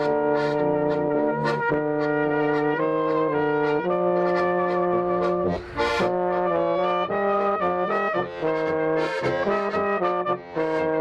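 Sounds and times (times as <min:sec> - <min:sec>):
brass band with accordion playing: 0:00.0 - 0:11.0.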